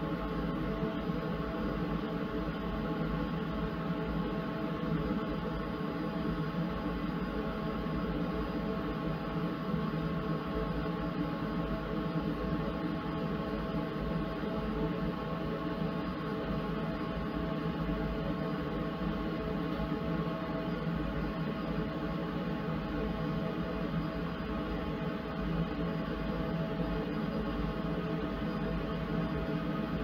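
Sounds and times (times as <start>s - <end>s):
laser engraver humming: 0.0s - 30.0s.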